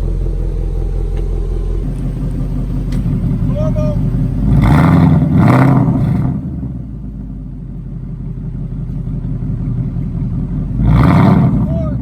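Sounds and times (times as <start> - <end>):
car engine rumbling idle: 0.0 - 12.0.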